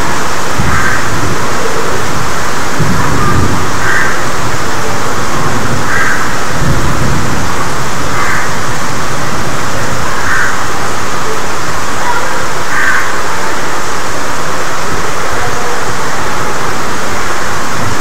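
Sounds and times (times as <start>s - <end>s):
heavy rain on leaves and tarp: 0.0s - 18.0s.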